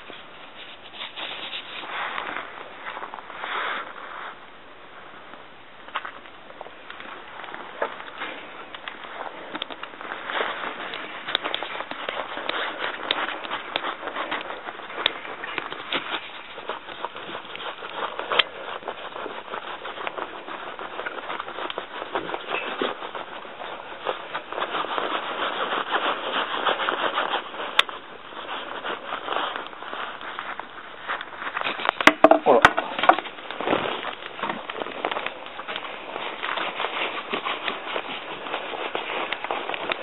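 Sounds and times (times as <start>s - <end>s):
brush scrubbing dog's coat: 0.0s - 4.2s, 7.0s - 40.0s.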